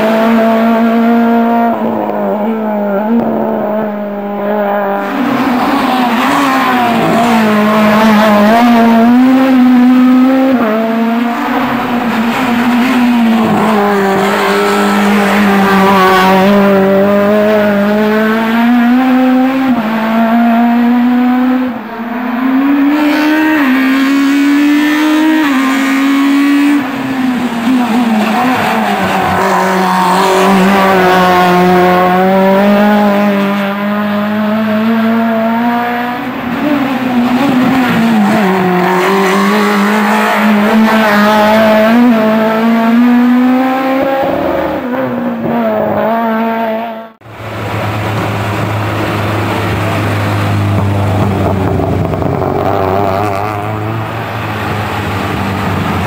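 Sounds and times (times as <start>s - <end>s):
racing engine revving: 0.0s - 56.0s.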